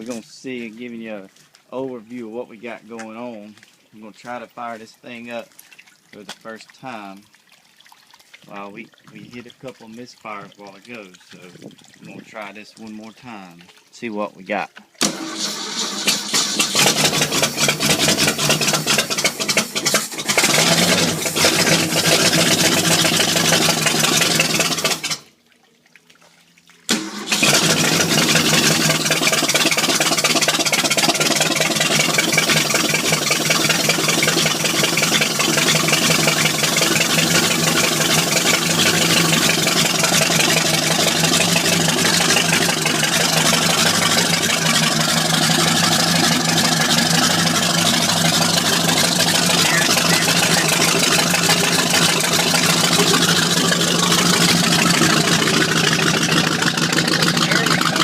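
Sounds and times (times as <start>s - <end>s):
boat engine starting and running: 0.0s - 25.4s, 26.4s - 58.0s.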